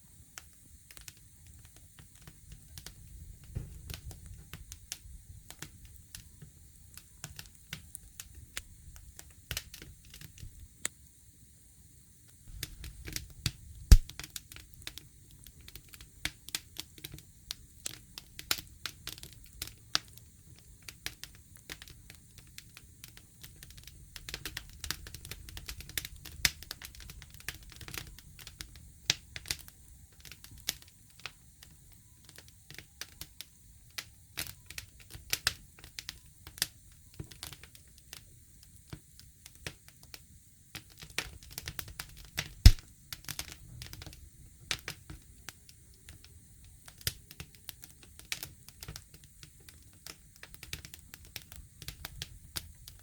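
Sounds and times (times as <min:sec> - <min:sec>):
campfire crackling and popping: 0:00.4 - 0:11.1, 0:12.3 - 0:53.0.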